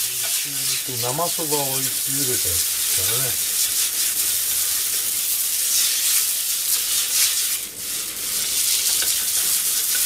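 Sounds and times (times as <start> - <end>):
noodles sizzling in frying pan: 0.0 - 10.0.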